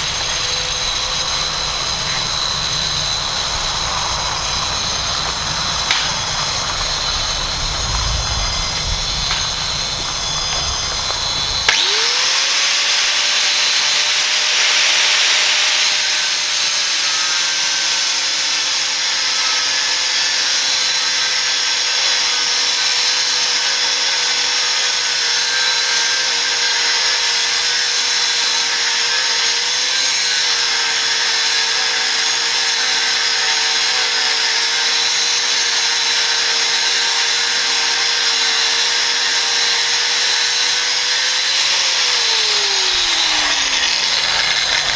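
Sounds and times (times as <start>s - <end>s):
angle grinder cutting steel: 0.0s - 44.9s.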